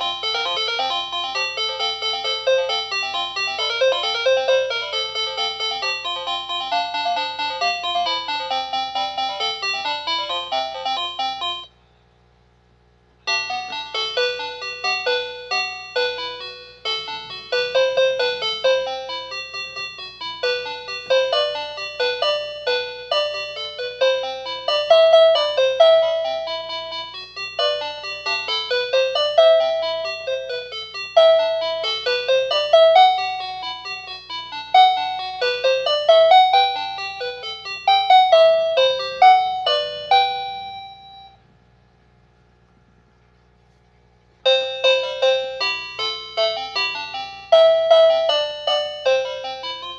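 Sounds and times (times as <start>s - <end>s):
toy telephone electronic melody: 0.0s - 11.8s, 13.3s - 41.4s, 44.4s - 49.9s.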